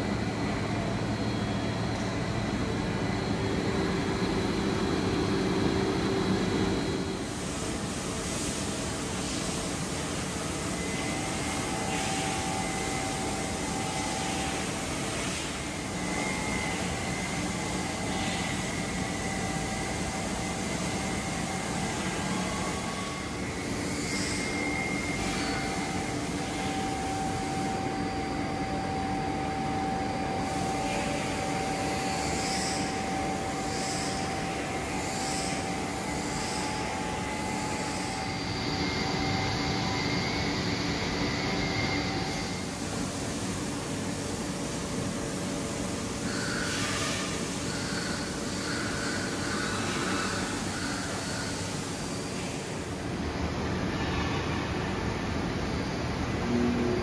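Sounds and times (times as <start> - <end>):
drilling machine humming and whining: 0.0 - 57.0.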